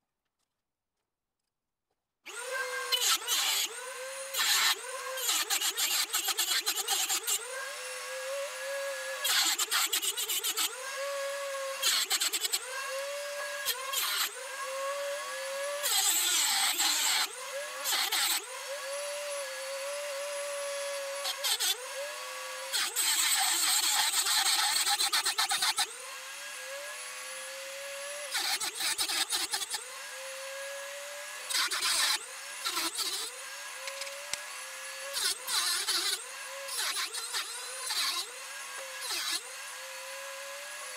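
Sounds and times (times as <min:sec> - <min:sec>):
cut-off wheel grinding metal: 0:02.3 - 0:40.9
rotary tool motor whining: 0:02.3 - 0:40.9.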